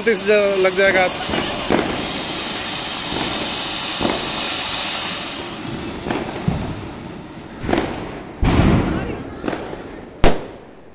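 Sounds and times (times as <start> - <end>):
firework cracks: 0.0 - 10.9
firework fountain hissing: 0.0 - 10.9.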